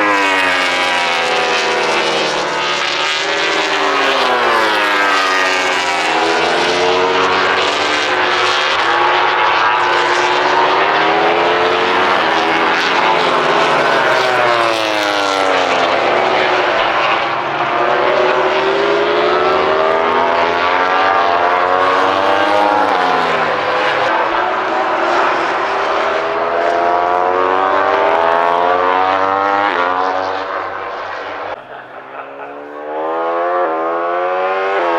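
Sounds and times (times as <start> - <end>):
racing motorcycles at full throttle: 0.0 - 34.9.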